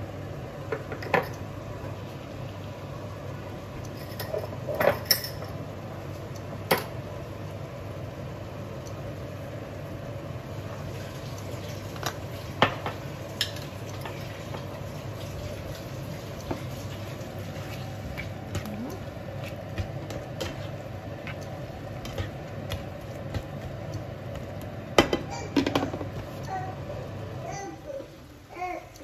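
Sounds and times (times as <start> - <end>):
food simmering in a frying pan: 0.0 - 29.0.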